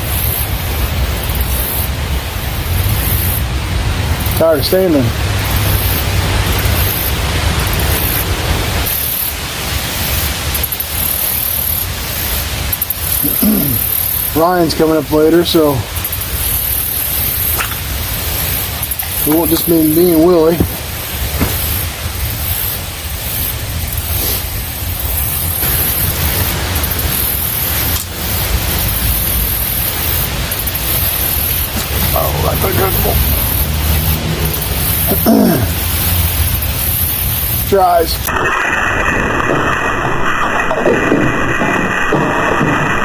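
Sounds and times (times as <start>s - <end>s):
water pouring over spillway: 0.0s - 43.0s.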